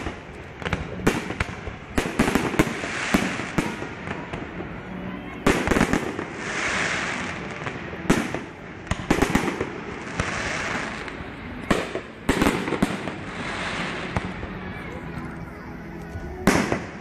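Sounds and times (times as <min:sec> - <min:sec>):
fireworks crackling hiss: 0:00.0 - 0:17.0.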